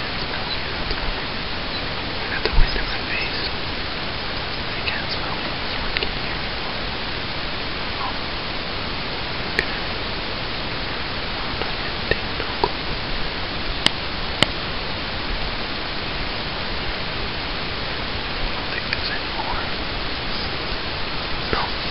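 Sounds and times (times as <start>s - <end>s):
steady loud hiss: 0.0s - 21.9s.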